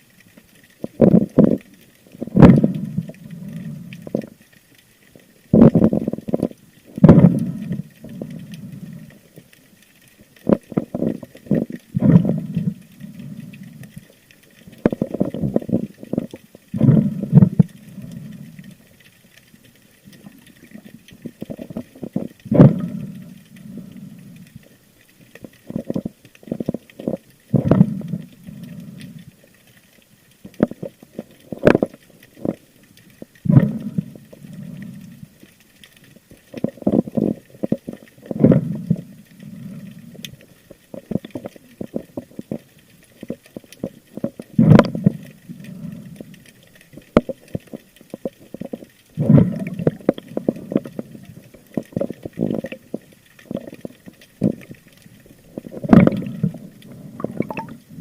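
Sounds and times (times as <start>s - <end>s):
muffled water gurgling and sloshing: 0.0s - 58.0s.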